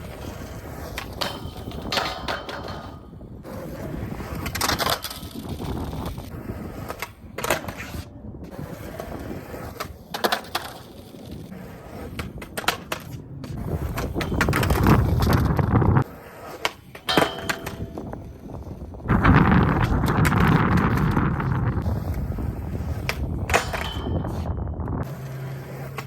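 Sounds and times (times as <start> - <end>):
skateboard clacks: 0.0 - 26.0
skateboard wheels rolling: 0.0 - 26.0.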